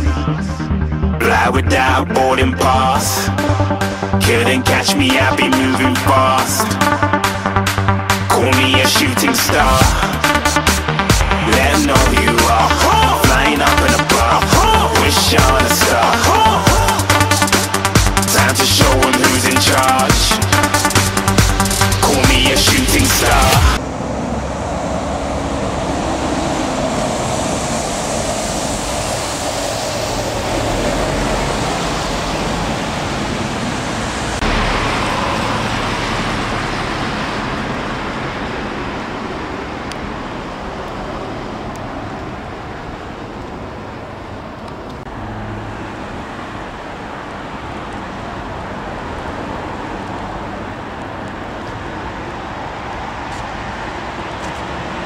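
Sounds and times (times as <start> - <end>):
road traffic rushing: 0.0 - 55.0.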